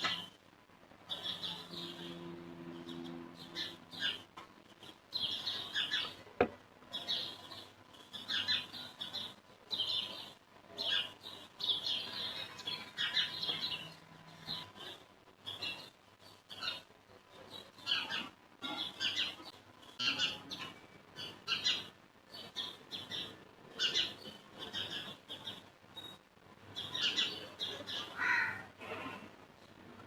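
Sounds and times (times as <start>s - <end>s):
birds chirping and calling: 1.1s - 6.3s, 6.9s - 29.7s.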